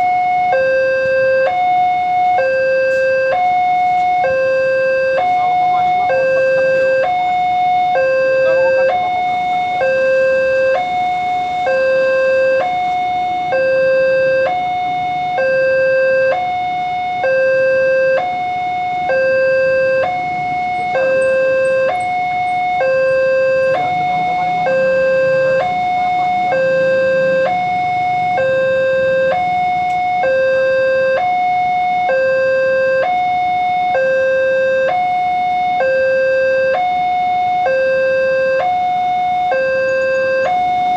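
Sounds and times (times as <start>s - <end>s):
two-tone crossing warning alarm: 0.0s - 40.9s.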